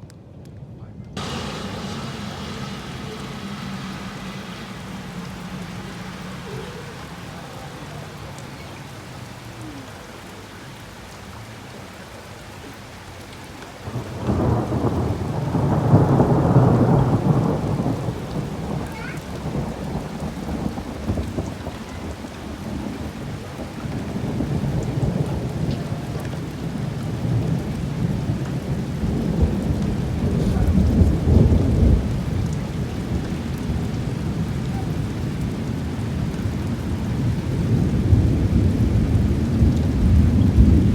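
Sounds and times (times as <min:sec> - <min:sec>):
rain falling steadily: 0:00.0 - 0:40.9
rumbling thunder: 0:01.2 - 0:09.4, 0:13.8 - 0:40.9.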